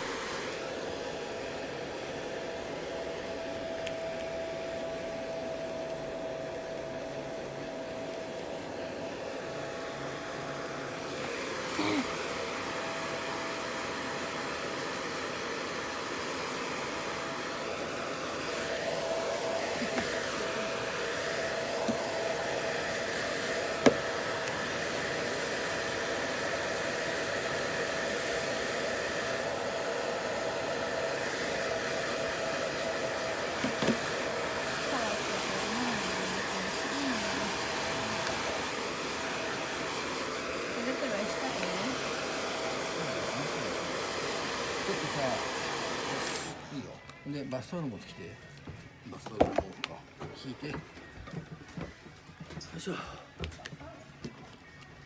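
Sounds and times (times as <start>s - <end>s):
hair dryer blowing: 0.0s - 47.0s.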